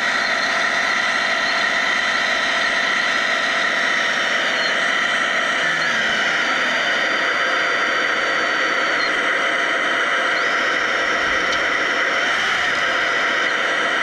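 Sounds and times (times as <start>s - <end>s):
hydraulic machine whirring and whining: 0.0s - 14.0s.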